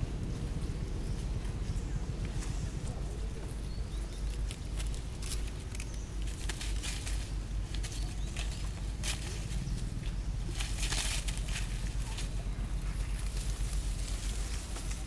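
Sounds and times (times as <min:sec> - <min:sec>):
steady low rumble: 0:00.0 - 0:15.0
dry leaves rustling and crackling: 0:02.1 - 0:15.0.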